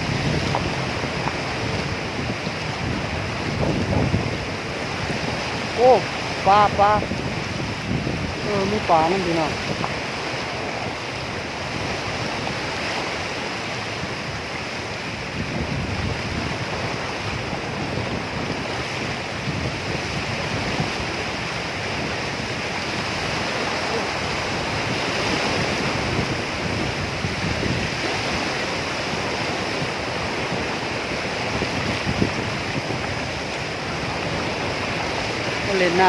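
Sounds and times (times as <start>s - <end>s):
waves lapping at shore: 0.0s - 36.0s
wind buffeting microphone: 0.0s - 36.0s.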